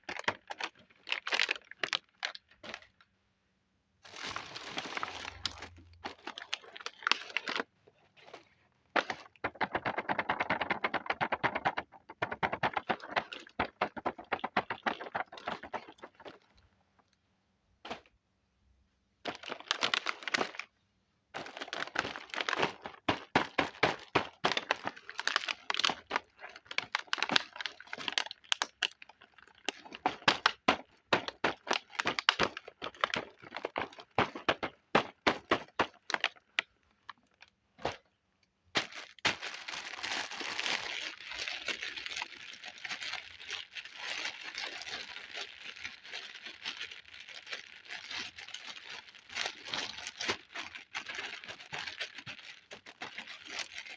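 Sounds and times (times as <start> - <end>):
plastic packaging crinkling: 0.0 - 3.1, 4.0 - 17.2, 19.2 - 20.7, 21.4 - 38.1, 38.7 - 53.9.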